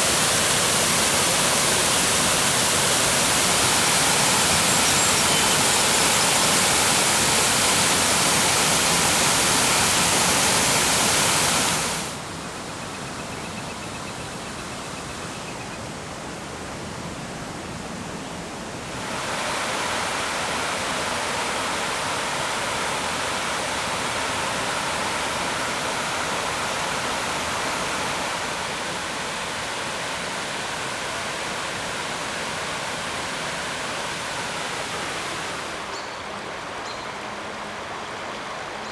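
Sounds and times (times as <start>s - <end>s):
waterfall rushing: 0.0s - 12.4s, 18.8s - 38.9s.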